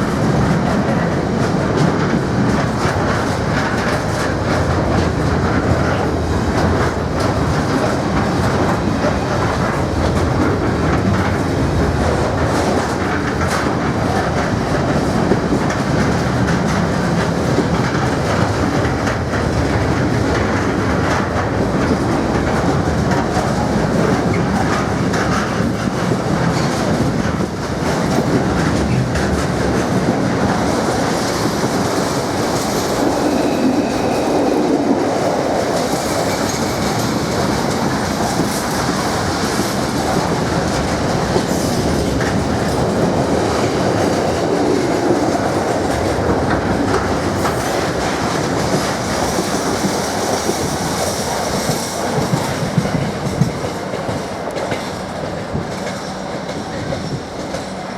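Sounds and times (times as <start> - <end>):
freight wagons clickety-clack: 0.0 - 57.9.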